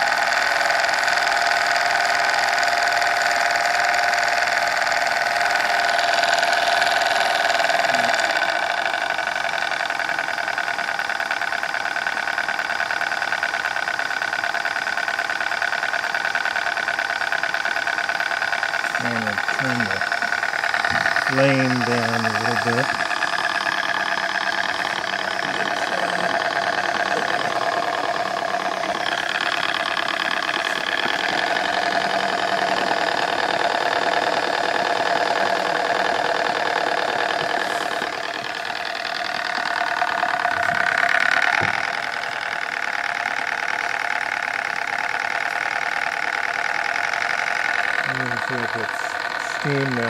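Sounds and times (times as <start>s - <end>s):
model steam engine beating: 0.0s - 50.0s.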